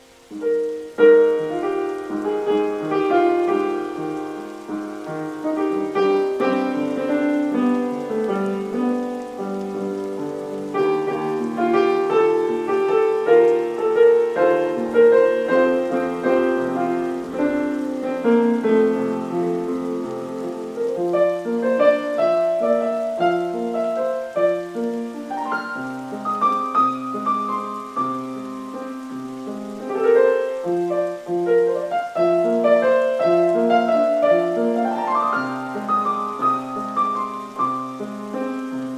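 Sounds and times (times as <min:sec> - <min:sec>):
solo piano: 0:00.0 - 0:38.9.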